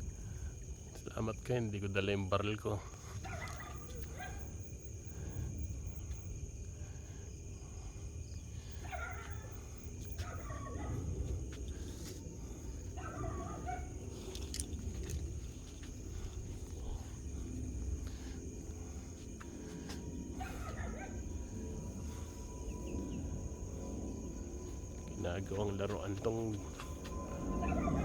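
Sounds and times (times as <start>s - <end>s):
high insect trill: 0.0s - 28.0s.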